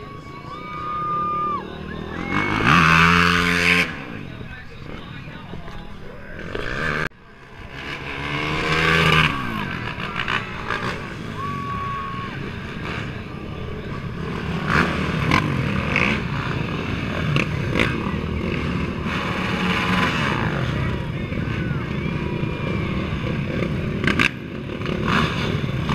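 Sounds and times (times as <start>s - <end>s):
quad engines running: 0.0s - 25.9s
quad passing close: 0.0s - 25.9s.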